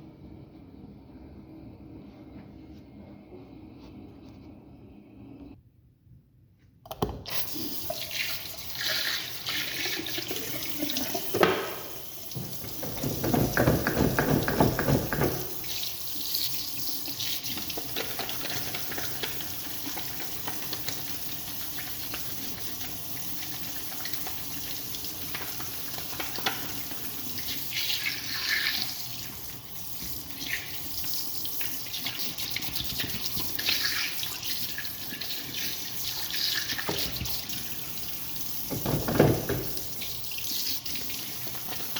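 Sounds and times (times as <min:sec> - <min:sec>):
water running: 0:07.3 - 0:41.9.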